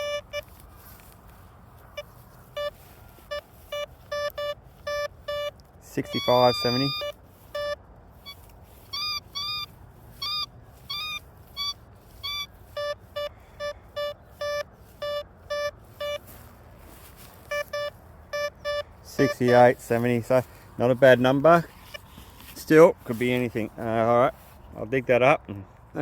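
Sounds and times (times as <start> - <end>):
metal detector beeping: 0.0 - 1.1, 1.8 - 24.1.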